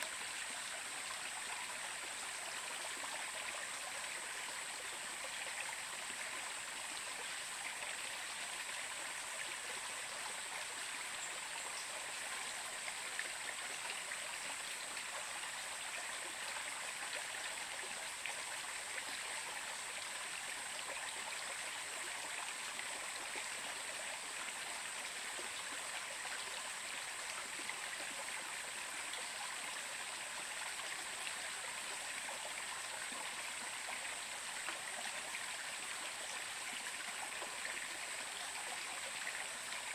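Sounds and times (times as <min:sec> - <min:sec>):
constant high hiss: 0:00.0 - 0:39.9
stream water rushing and splashing: 0:00.0 - 0:39.9.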